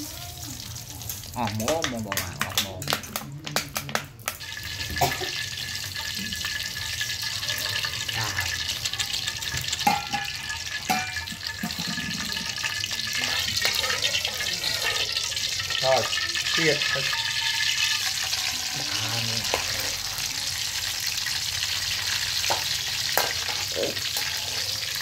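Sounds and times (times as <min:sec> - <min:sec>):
oil sizzling in wok: 0:00.0 - 0:25.0
metal spatula scraping wok: 0:04.3 - 0:25.0.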